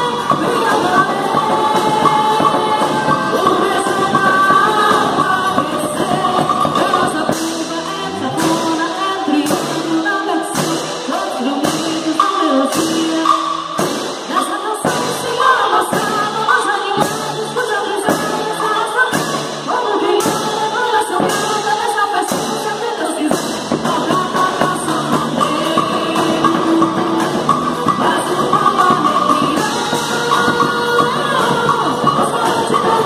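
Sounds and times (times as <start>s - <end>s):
person singing: 0.0s - 33.0s
steady drum beat: 0.0s - 33.0s.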